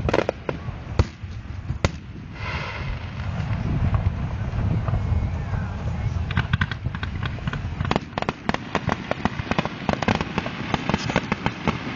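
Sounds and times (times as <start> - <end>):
fireworks cracking and popping: 0.0 - 11.9.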